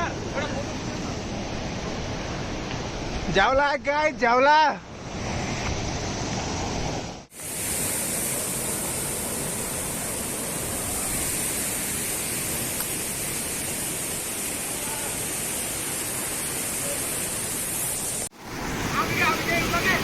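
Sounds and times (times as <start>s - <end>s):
stream water rushing: 0.0s - 3.6s, 4.2s - 20.0s.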